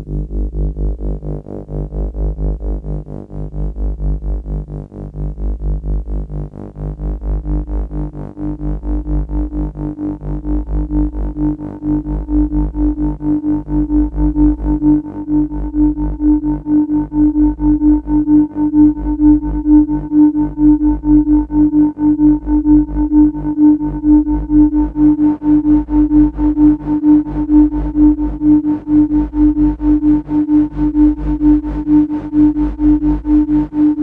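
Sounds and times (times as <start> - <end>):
pulsing synthesizer bass drone: 0.0 - 34.0.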